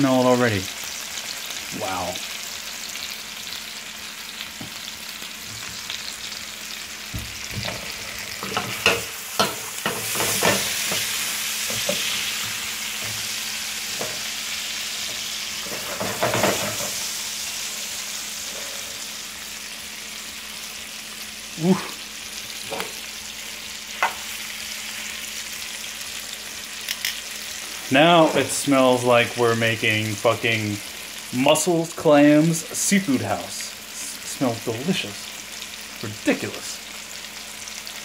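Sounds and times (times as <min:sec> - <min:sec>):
chicken frying in a pan: 0:00.0 - 0:38.0.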